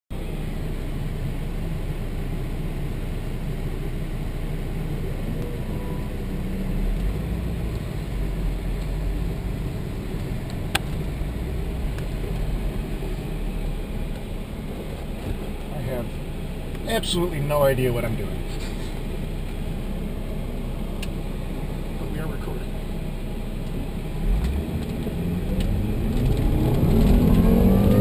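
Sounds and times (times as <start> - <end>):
car engine droning: 0.1 - 28.0.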